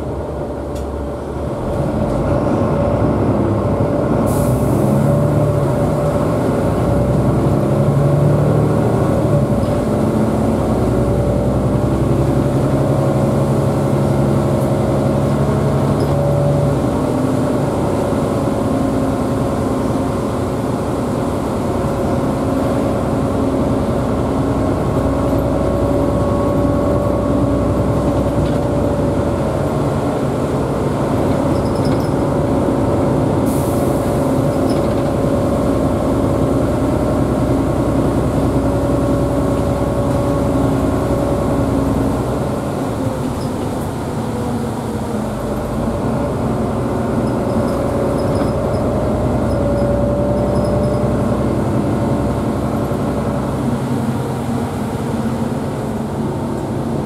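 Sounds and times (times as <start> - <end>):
bus diesel engine drone: 0.0 - 57.0
road noise: 0.0 - 57.0.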